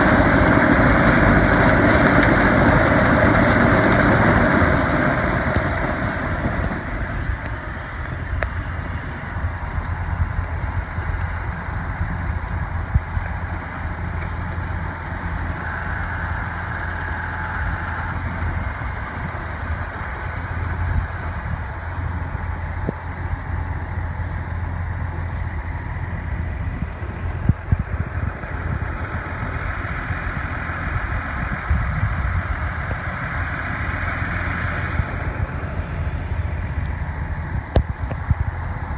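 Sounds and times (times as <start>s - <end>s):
diesel engine hum: 0.0s - 38.9s
mechanical rushing noise: 0.0s - 38.9s.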